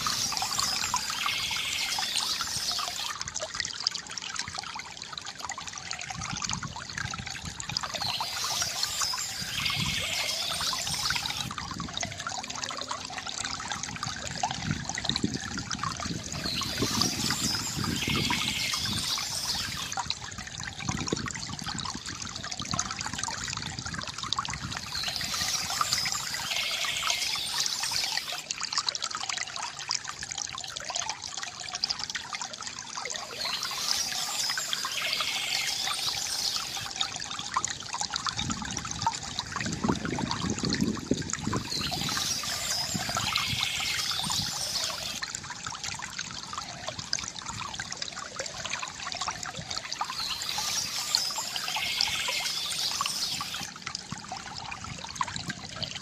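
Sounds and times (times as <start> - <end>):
water trickling from bamboo fountain: 0.0 - 56.0.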